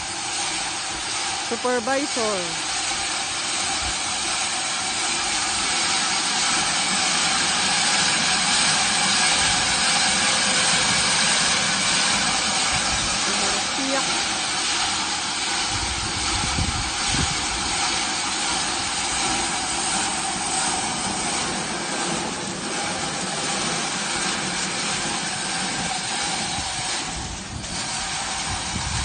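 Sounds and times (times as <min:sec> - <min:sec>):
thresher drum whirring: 0:00.0 - 0:29.0.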